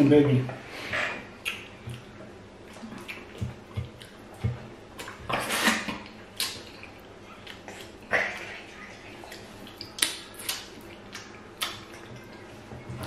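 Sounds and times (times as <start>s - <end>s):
wet lip-smacking and chewing: 1.4s - 12.4s.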